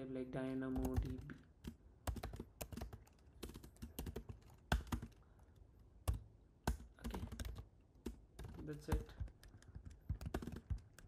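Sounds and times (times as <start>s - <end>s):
typing on computer keyboard: 0.7s - 5.2s, 6.0s - 11.0s.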